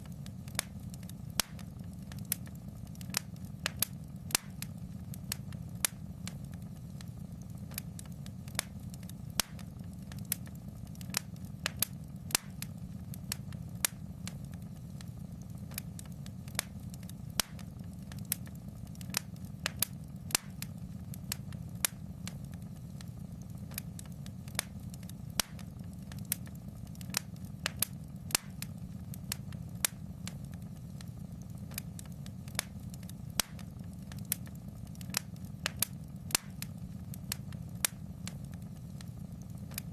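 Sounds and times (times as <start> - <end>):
fire low rumble: 0.0 - 39.9
fire popping and snapping: 0.0 - 39.9.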